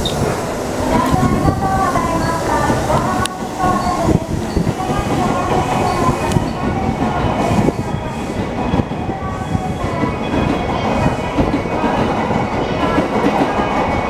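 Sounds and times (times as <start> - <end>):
steady tones: 0.0 - 14.0
train hum and rumble: 0.0 - 14.0.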